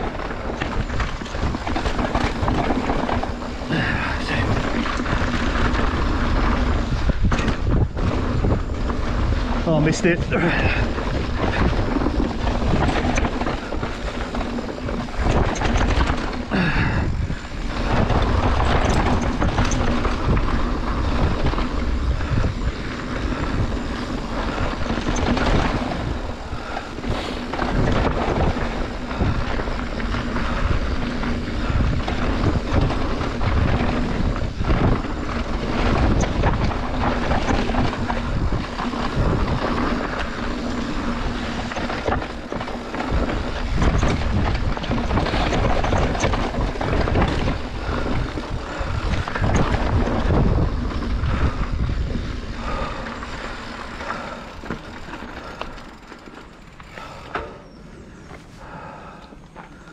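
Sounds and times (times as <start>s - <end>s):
bike rattling over rocks: 0.0s - 59.9s
tyre and wind rush: 0.0s - 59.9s.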